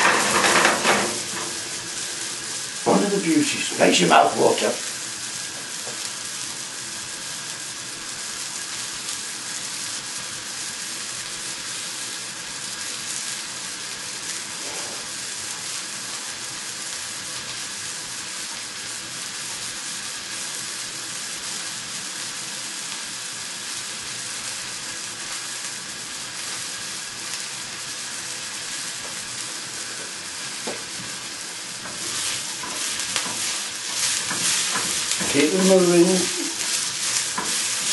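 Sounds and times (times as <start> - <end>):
onions sizzling in a frying pan: 0.0 - 37.9.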